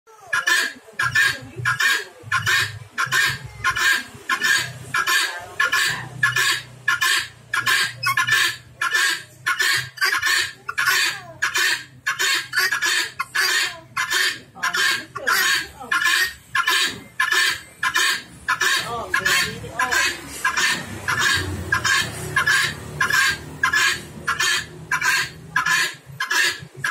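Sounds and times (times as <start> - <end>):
guineafowl calling: 0.3 - 26.9.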